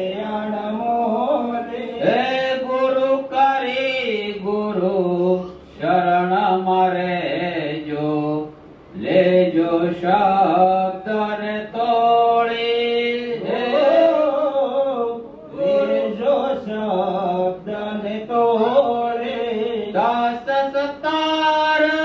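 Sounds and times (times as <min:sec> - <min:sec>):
person chanting devotional song: 0:00.0 - 0:22.0.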